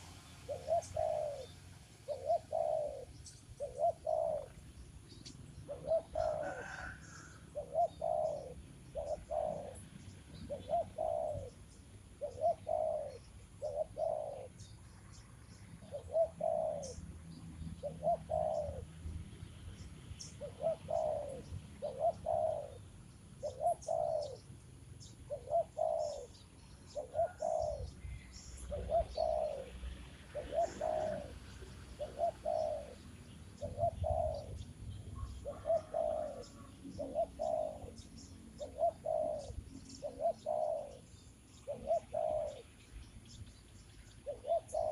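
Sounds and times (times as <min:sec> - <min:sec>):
bird cooing: 0:00.0 - 0:14.8, 0:15.8 - 0:43.4, 0:44.0 - 0:44.9.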